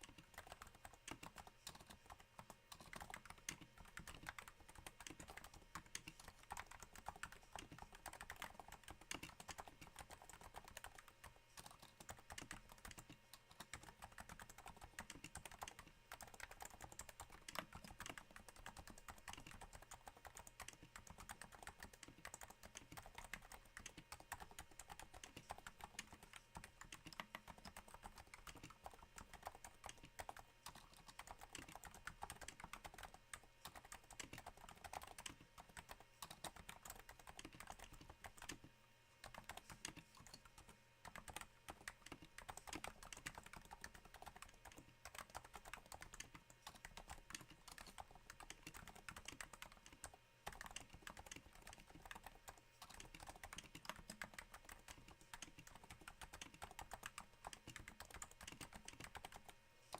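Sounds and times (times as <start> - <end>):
soft keyboard typing: 0.0 - 59.9.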